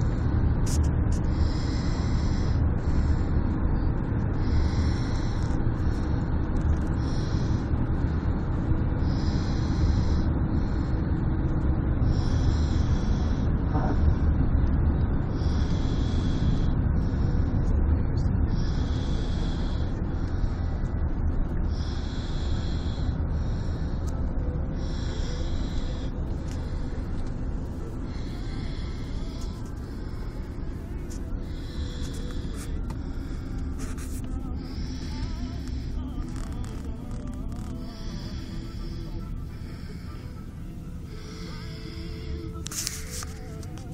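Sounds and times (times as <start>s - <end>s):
steady low rumble: 0.0s - 43.9s.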